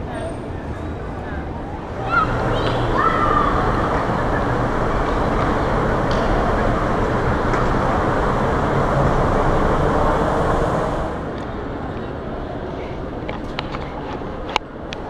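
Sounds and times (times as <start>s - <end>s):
monorail train rumbling: 0.0s - 14.9s.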